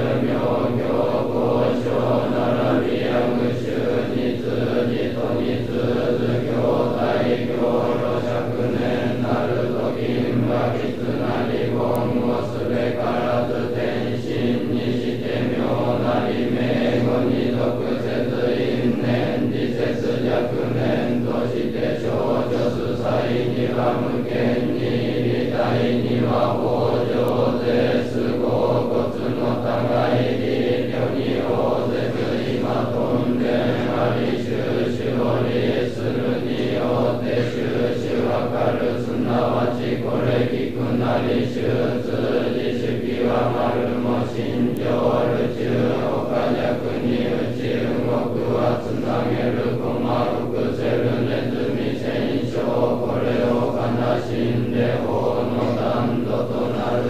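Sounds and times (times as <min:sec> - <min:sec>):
monks chanting in unison: 0:00.0 - 0:57.0.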